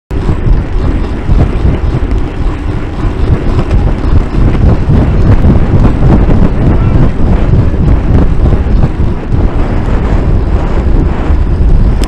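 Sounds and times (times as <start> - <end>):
wind buffeting microphone: 0.1 - 12.0
bike clicks and rattles: 0.2 - 12.0.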